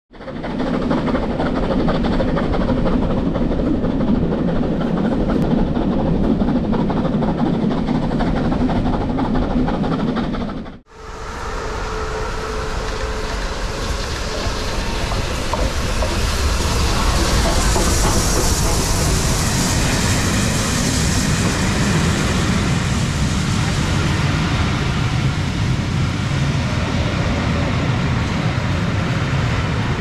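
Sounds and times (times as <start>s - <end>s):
train rumble with clickety-clack: 0.1s - 30.0s
steam locomotive hissing: 0.2s - 30.0s.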